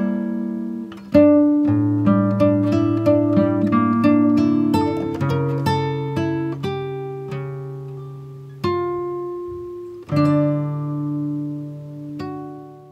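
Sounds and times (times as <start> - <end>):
plucked string music: 0.0 - 12.9.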